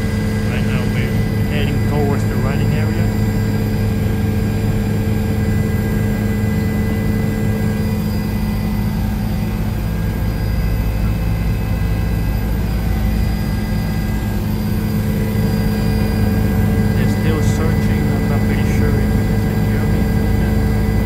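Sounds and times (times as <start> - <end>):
helicopter engine and rotor drone: 0.0 - 21.0.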